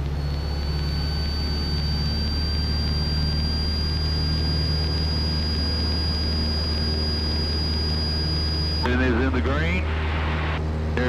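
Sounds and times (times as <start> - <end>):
aircraft piston engine at full power: 0.0 - 11.0
thin high whine: 0.0 - 11.0.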